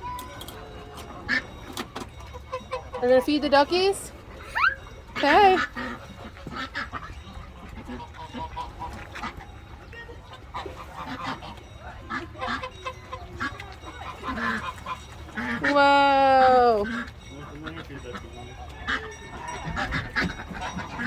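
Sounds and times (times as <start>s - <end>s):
waterfowl calling: 0.1s - 21.0s.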